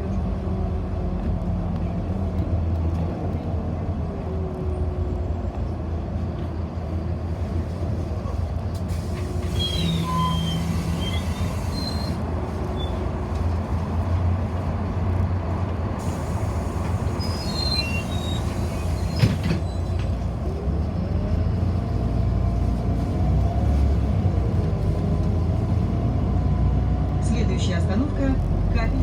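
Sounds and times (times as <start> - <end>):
bus engine and road rumble: 0.0 - 29.0.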